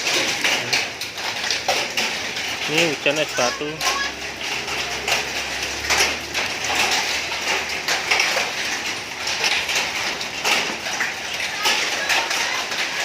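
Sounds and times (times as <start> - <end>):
hailstones clattering: 0.0 - 13.0.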